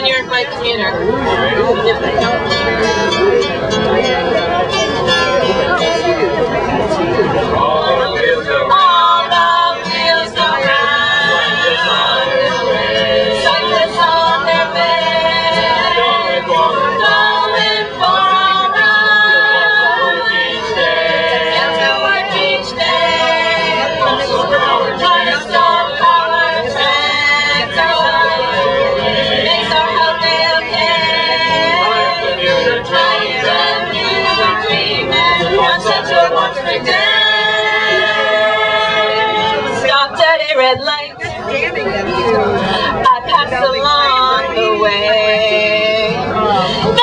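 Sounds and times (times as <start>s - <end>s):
group singing a capella: 7.4s - 41.5s, 42.4s - 47.0s.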